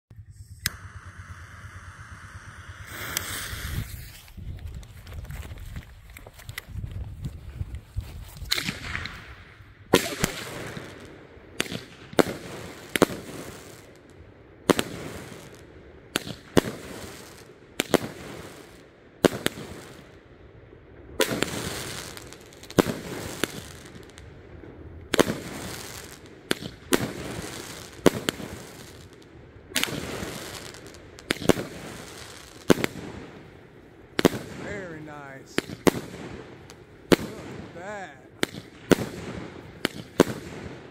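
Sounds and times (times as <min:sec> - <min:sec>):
fireworks bangs: 0:00.2 - 0:05.0, 0:08.4 - 0:14.0, 0:14.7 - 0:20.1, 0:21.2 - 0:24.3, 0:25.1 - 0:40.9.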